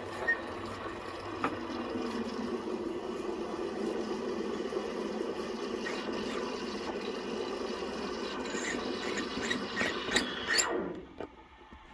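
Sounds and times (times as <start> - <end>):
steam wand hissing in milk: 0.0 - 10.8.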